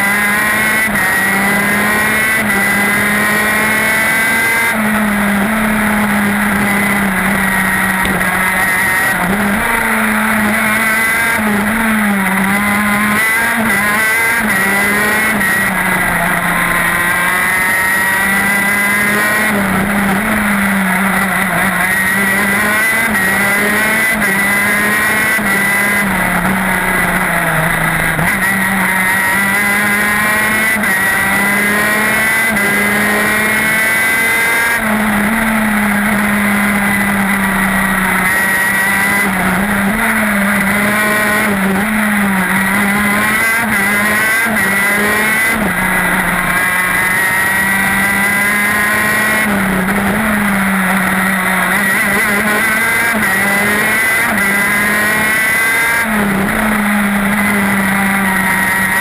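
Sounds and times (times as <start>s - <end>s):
kart engine revving through gears: 0.0s - 59.0s.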